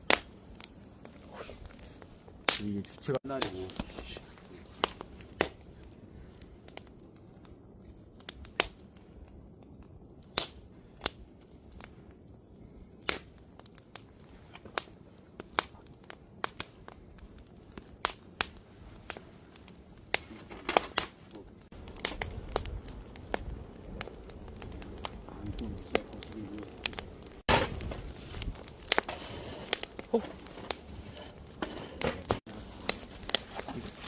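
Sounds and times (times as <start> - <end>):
wood campfire crackling: 0.0 - 34.0.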